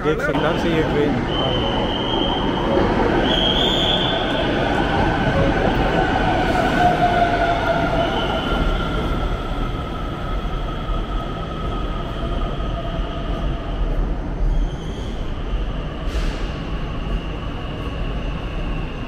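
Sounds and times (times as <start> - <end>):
electric train rumble and whine: 0.0 - 19.0.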